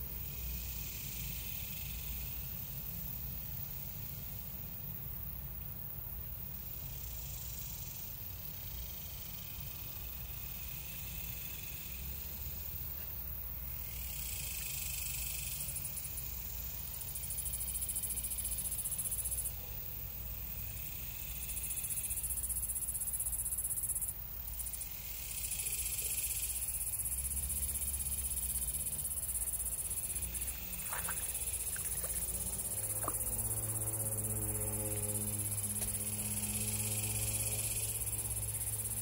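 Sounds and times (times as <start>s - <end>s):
high-pitched pulsing insect chorus: 0.0s - 39.0s.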